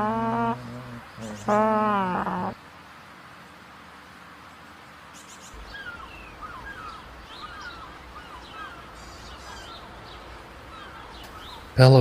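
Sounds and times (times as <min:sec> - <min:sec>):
birds chirping: 0:00.0 - 0:12.0
outdoor ambience hiss: 0:00.0 - 0:12.0.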